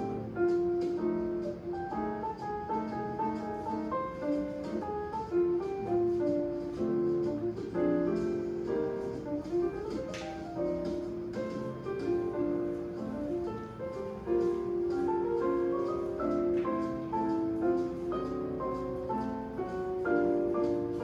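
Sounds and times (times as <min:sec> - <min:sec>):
light piano-like melody: 0:00.0 - 0:21.0.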